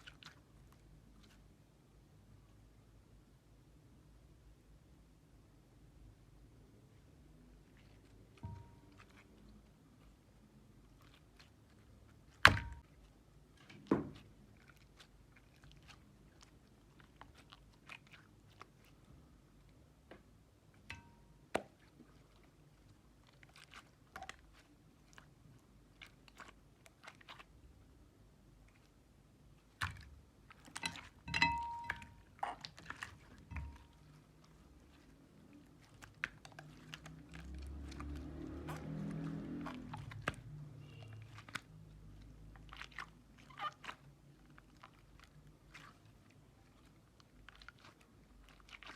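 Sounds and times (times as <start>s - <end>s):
slime squished by hand: 7.6s - 19.3s, 20.2s - 48.9s.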